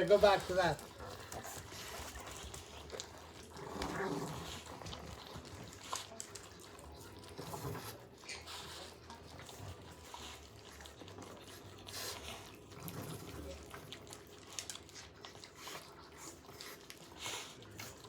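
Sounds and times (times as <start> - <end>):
dogs licking wet lapping: 0.0 - 18.0.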